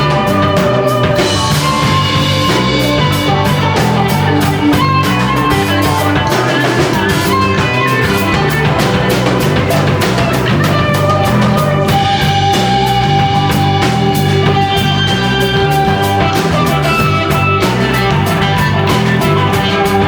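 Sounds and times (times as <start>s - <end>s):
bass guitar: 0.0s - 20.0s
drum kit: 0.0s - 20.0s
electric guitar: 0.0s - 20.0s.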